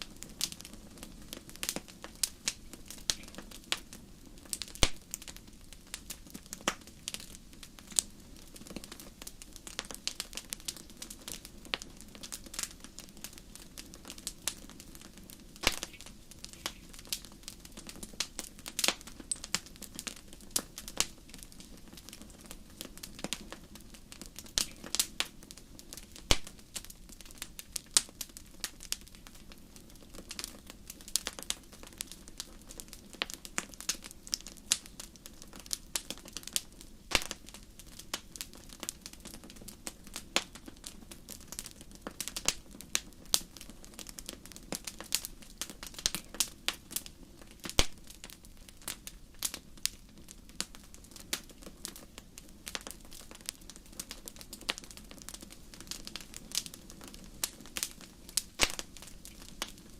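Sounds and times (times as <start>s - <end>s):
low noise of flames: 0.0s - 59.9s
wood fire crackling and popping: 0.0s - 59.9s.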